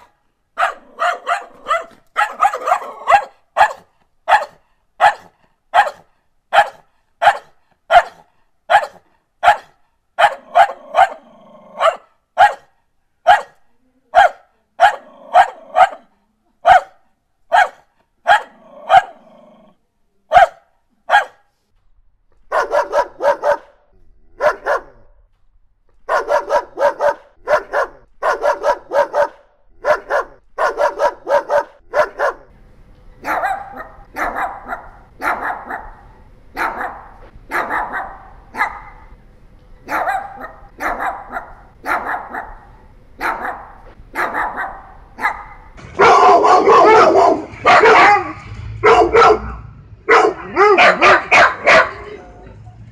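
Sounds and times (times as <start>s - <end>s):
dogs barking: 0.0s - 13.6s, 14.2s - 19.3s, 20.3s - 21.4s, 22.5s - 23.8s, 24.4s - 25.0s, 26.1s - 32.5s, 33.2s - 39.2s, 39.8s - 52.2s
faint low hum: 0.0s - 52.9s.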